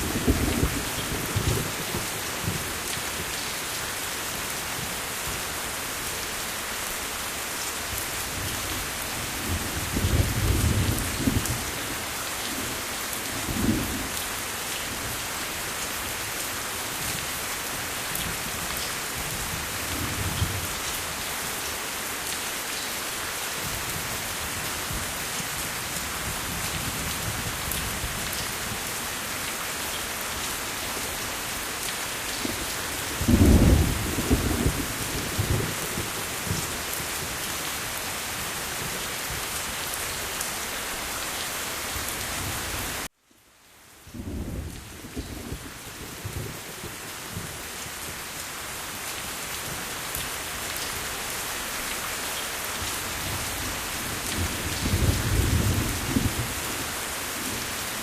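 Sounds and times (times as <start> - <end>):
heavy rain falling: 0.0 - 43.2, 43.8 - 58.0.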